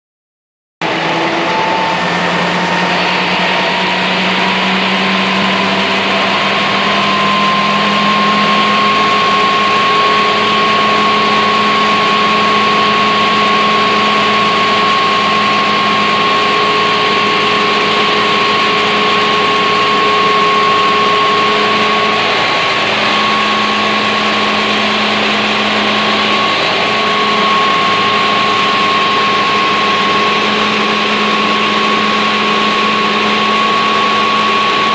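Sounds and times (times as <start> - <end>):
fire pump engine droning with whine: 0.8 - 34.9.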